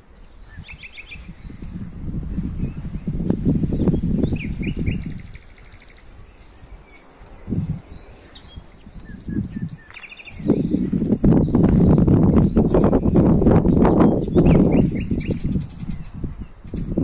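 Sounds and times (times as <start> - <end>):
low rumbling noise: 0.0 - 17.0
small birds chirping: 0.0 - 17.0.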